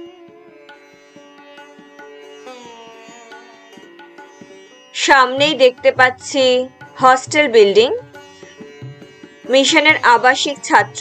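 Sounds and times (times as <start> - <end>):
plucked string instrument melody: 0.0 - 11.0.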